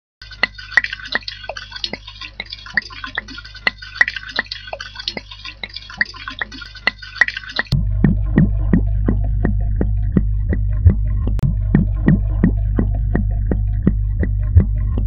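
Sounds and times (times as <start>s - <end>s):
liquid glugging from bottle: 0.2s - 15.0s.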